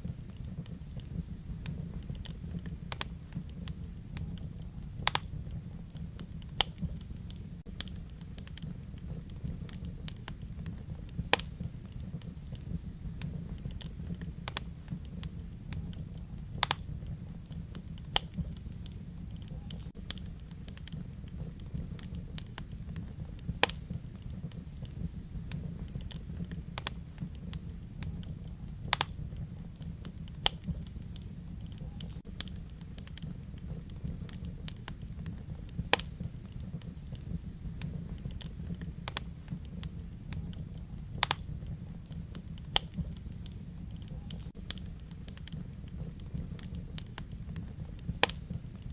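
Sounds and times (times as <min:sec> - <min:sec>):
fire crackling and popping: 0:00.0 - 0:48.9
fire low rumble: 0:00.0 - 0:48.9.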